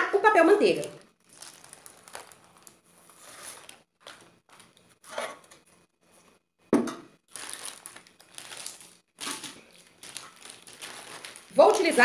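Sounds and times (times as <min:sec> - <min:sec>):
parchment paper crinkling: 0:00.6 - 0:05.7, 0:07.3 - 0:12.0.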